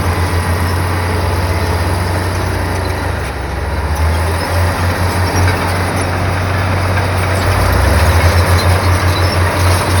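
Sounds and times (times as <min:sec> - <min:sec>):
bulldozer diesel engine drone: 0:00.0 - 0:10.0.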